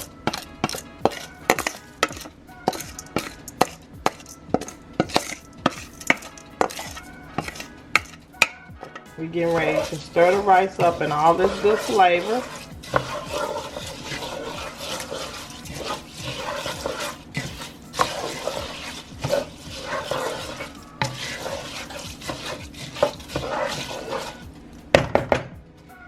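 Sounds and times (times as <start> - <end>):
spoon knocking against pot: 0.0 - 24.3
spoon stirring rice in gravy: 0.0 - 24.6.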